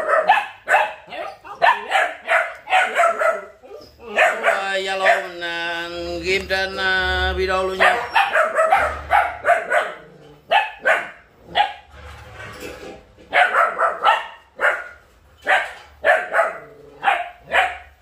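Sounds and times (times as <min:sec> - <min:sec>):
puppies barking: 0:00.0 - 0:05.9, 0:07.6 - 0:11.9, 0:13.3 - 0:18.0.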